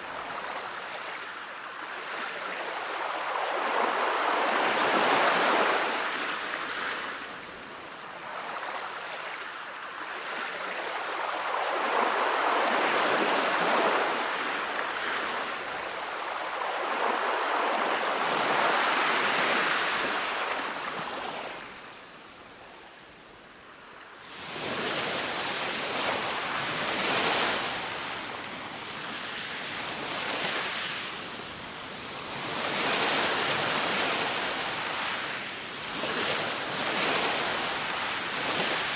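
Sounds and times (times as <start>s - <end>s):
small waves washing on sand: 0.0s - 38.9s.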